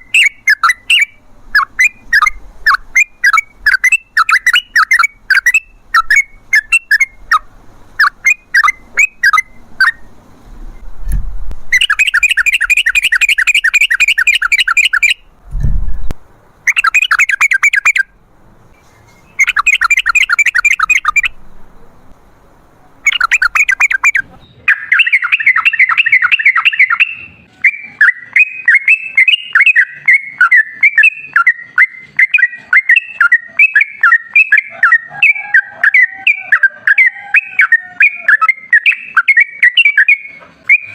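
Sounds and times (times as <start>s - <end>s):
bird bubbling warbling song: 0.0s - 10.1s, 11.7s - 15.3s, 16.7s - 18.1s, 19.3s - 21.6s, 23.0s - 40.9s
bird chattering notes: 0.0s - 10.1s, 11.7s - 15.3s, 16.7s - 18.1s, 19.1s - 22.1s, 22.8s - 40.9s.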